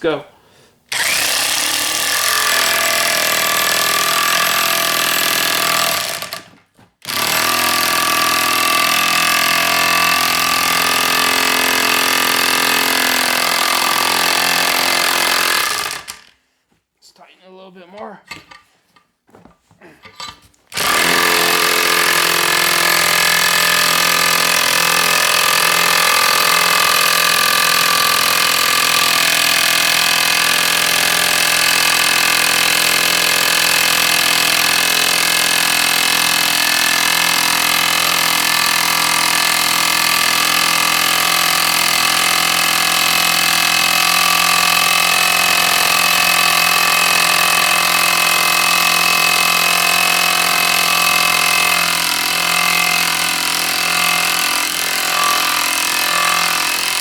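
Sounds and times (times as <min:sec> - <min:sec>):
impact wrench hammering: 0:00.9 - 0:16.3, 0:20.7 - 0:57.0.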